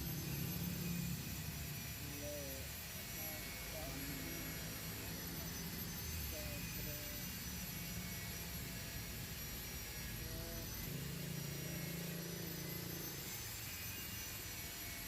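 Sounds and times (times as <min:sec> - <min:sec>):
faint distant voices: 0:00.0 - 0:13.6
low background hum: 0:00.0 - 0:14.4.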